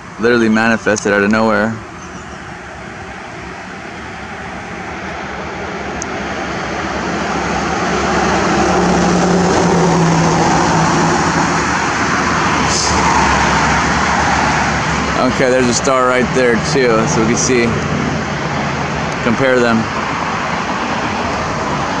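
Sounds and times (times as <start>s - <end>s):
low engine hum: 0.0s - 22.0s
passing cars: 0.0s - 22.0s.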